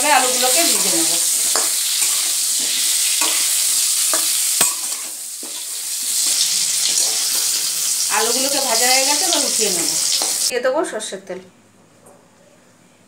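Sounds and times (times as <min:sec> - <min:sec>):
potatoes sizzling in oil: 0:00.0 - 0:10.5.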